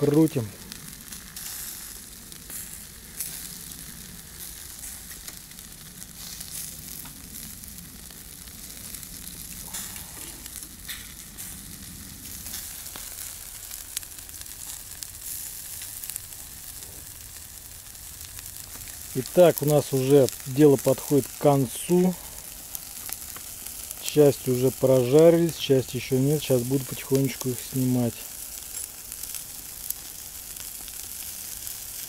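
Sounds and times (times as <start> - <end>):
chicken wings sizzling on grill: 0.0 - 32.0.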